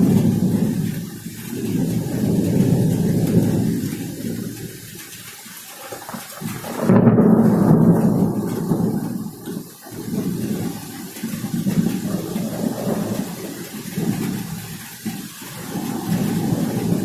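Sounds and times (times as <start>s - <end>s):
rain hissing: 0.0s - 17.0s
thunder rumbling: 0.0s - 17.0s.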